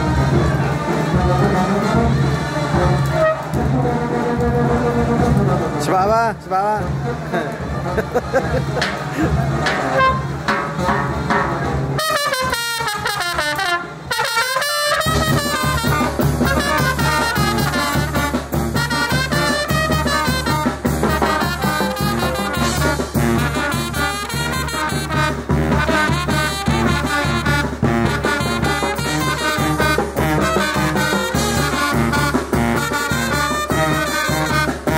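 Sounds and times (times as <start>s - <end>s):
trumpets playing a run: 0.0s - 5.8s, 9.0s - 34.9s
brass band playing: 0.0s - 5.9s, 6.8s - 34.9s.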